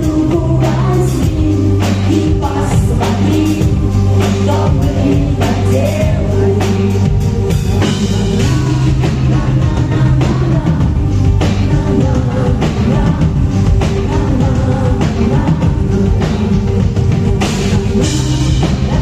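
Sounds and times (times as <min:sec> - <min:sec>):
woman singing: 0:00.0 - 0:17.1
bass guitar: 0:00.0 - 0:19.0
drums: 0:00.0 - 0:19.0
guitar: 0:00.0 - 0:19.0.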